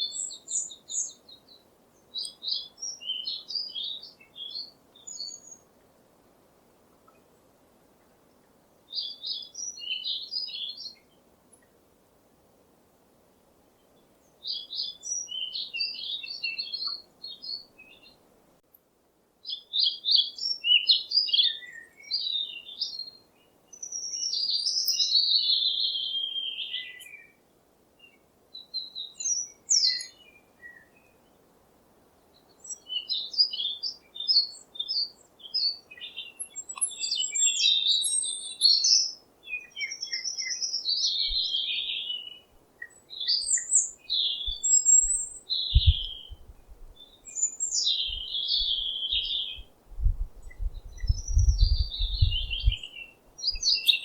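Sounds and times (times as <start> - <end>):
faint steady hiss: 0.0 - 54.0
songbirds chirping: 0.0 - 54.0.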